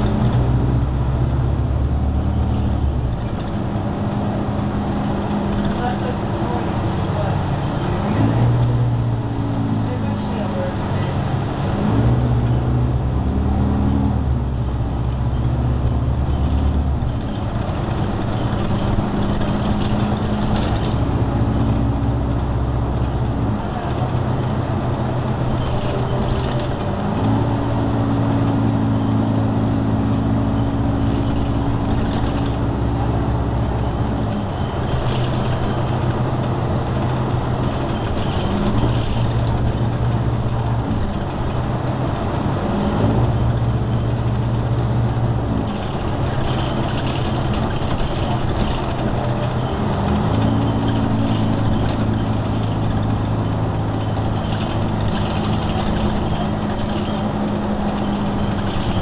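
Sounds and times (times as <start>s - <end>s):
bus engine drone: 0.0s - 59.0s
road noise: 0.0s - 59.0s.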